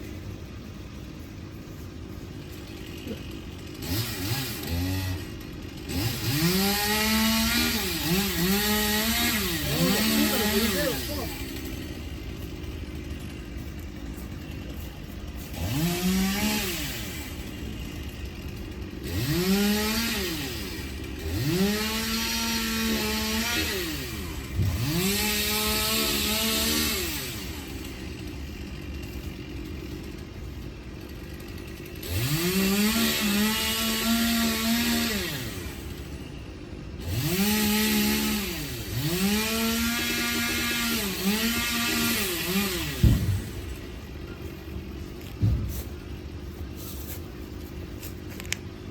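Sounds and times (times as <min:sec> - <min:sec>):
chainsaw revving: 0:00.8 - 0:48.5.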